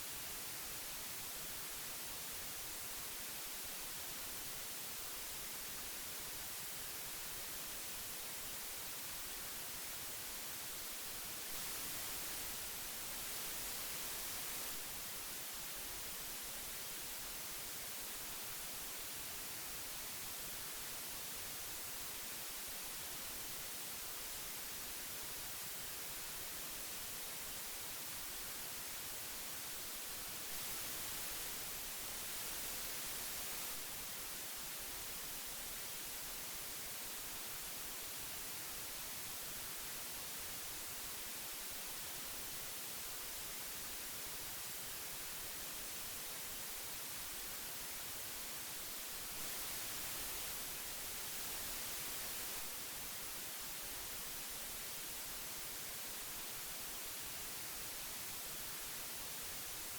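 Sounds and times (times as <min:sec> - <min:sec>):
tape hiss: 0:00.0 - 0:59.9.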